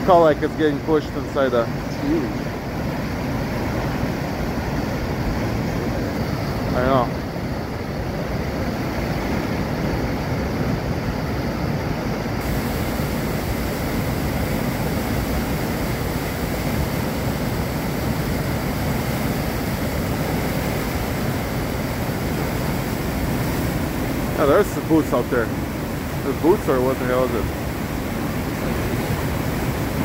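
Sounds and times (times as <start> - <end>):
river rushing over a dam: 0.0 - 30.0.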